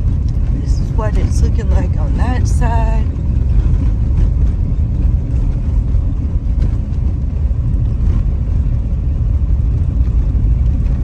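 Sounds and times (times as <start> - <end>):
car interior road and engine rumble: 0.0 - 11.0.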